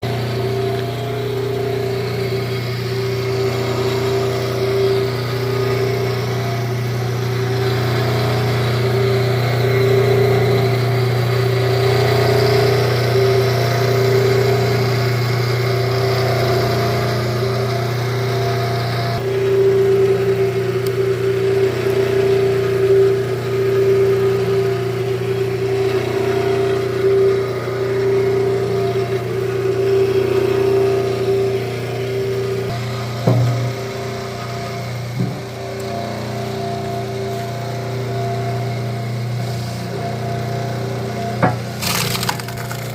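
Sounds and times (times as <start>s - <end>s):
wood splitter engine running: 0.0s - 42.9s.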